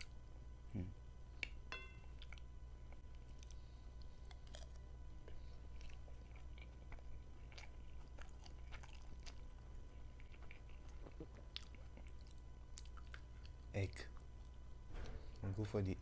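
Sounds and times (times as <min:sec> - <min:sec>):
person chewing pasta: 0:01.4 - 0:14.8.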